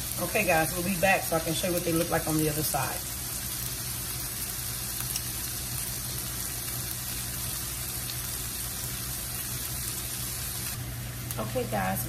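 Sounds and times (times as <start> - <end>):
pork chops sizzling on griddle: 0.0 - 12.0.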